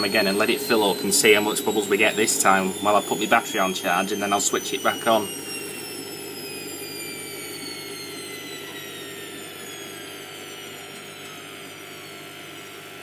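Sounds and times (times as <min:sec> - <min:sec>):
washing machine spin winding down: 0:00.0 - 0:13.0.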